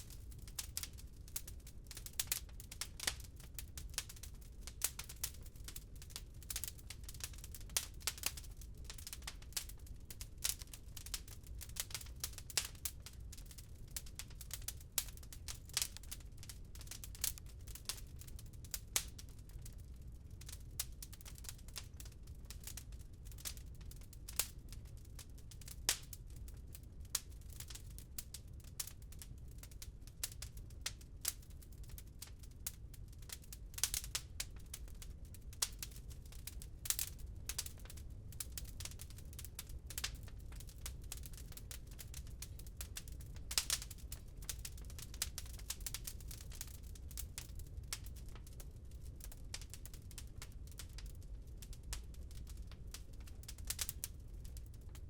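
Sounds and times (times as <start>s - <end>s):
loud cracks of fire: 0.0s - 19.6s, 24.2s - 55.0s
wood fire crackling: 0.0s - 55.0s.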